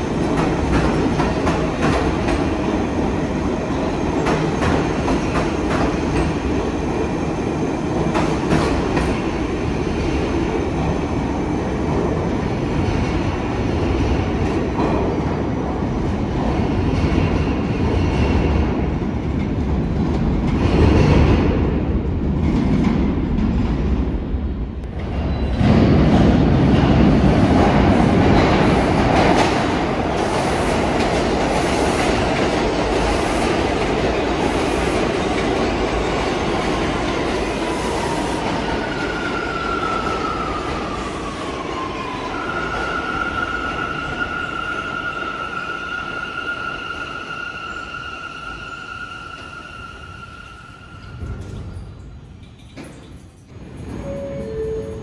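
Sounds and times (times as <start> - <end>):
subway train passing: 0.0 - 55.0.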